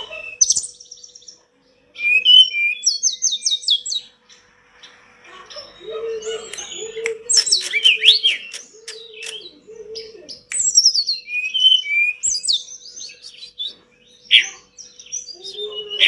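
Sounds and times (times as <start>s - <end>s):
bird singing chirps and whistles: 0.0s - 1.4s, 2.0s - 4.4s, 5.5s - 16.0s
faint low steady hum: 0.0s - 16.0s.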